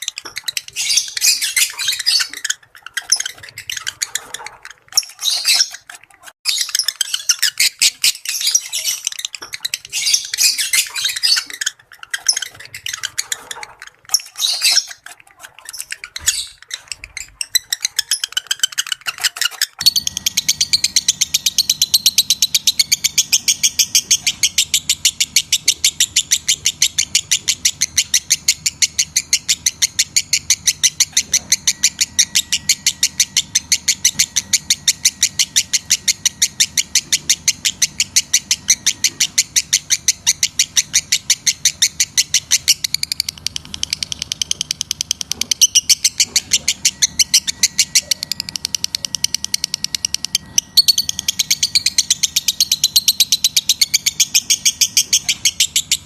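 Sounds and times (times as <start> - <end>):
lovebird chirping: 0.0 - 56.0.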